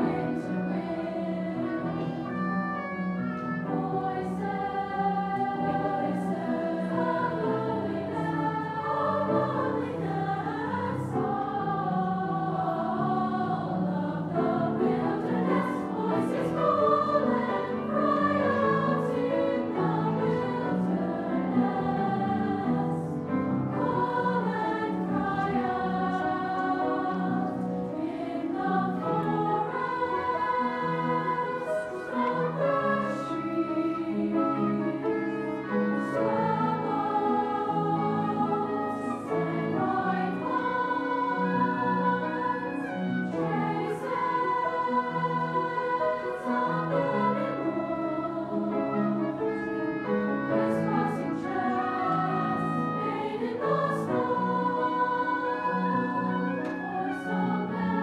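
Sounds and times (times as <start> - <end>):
youth choir singing: 0.0 - 2.7, 3.6 - 58.0
piano accompaniment: 0.0 - 58.0.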